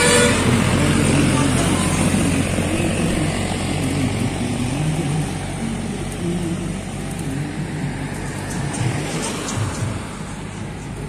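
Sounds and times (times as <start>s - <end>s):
diesel tractor engine: 0.0s - 11.0s
trailer rumbling on road: 0.0s - 11.0s.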